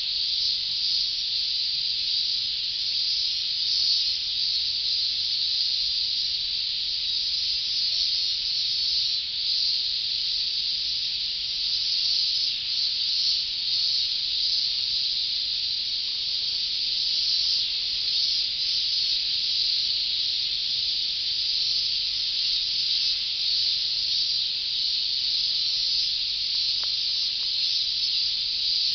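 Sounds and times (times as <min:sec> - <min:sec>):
cicadas chorus: 0:00.0 - 0:28.9.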